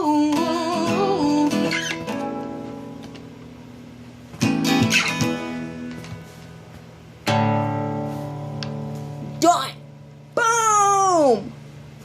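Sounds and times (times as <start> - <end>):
acoustic guitar strummed chords: 0.0 - 10.4.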